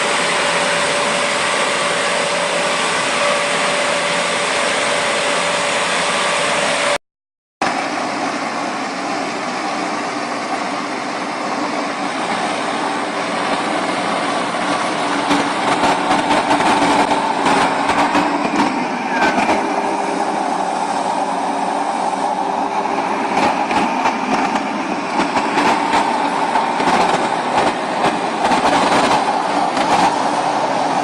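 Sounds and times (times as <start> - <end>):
machine whining: 0.0 - 7.0, 10.3 - 31.0
rough machine noise: 0.0 - 7.0, 7.6 - 31.0.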